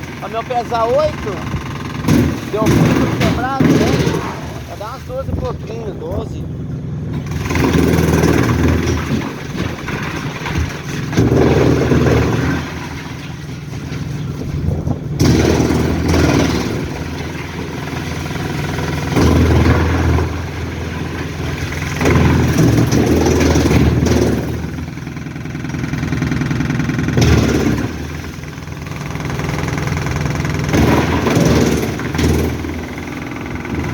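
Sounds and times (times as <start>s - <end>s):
heavy engine revving: 0.0s - 33.9s.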